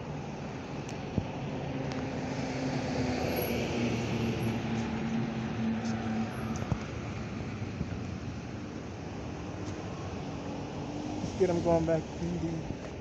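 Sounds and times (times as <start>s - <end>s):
vehicle engine hum and tyre noise: 0.0s - 13.0s.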